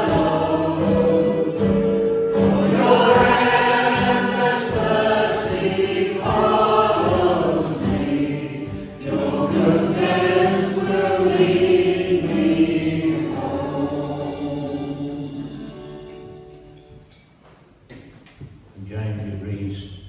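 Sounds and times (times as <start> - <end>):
congregation singing a hymn: 0.0 - 16.5.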